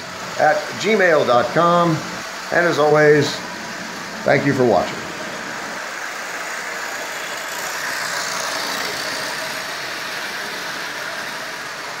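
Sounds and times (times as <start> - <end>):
toy train motor whirring: 0.0 - 12.0
wheels rumbling on rails: 0.0 - 12.0.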